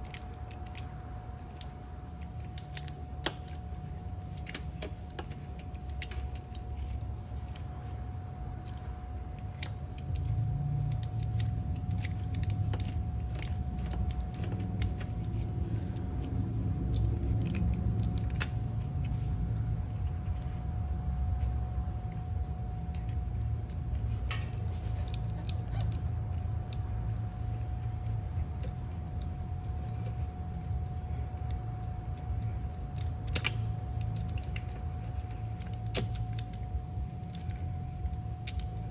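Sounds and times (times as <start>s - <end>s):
faint steady whine: 0.0s - 38.9s
steady low hum: 0.0s - 38.9s.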